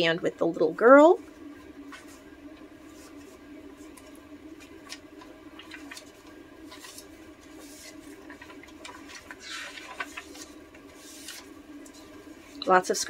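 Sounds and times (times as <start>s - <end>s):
faint steady hum: 0.0s - 13.0s
paper pages flipping: 1.8s - 12.7s.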